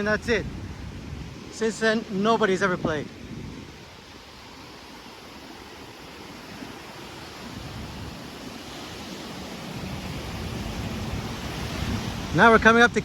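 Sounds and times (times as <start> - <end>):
surf washing on beach: 0.0 - 13.0
wind buffeting microphone: 0.0 - 13.0.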